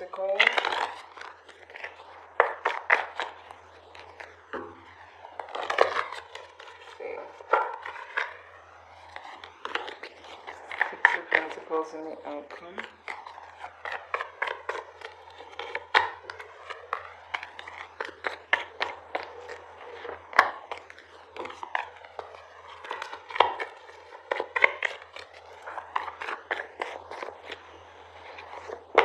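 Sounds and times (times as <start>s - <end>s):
cards being shuffled: 0.0s - 29.0s.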